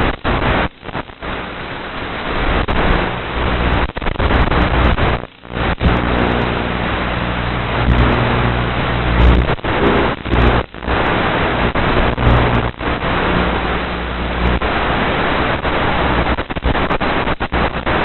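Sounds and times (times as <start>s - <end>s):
low even hum: 0.0s - 16.3s.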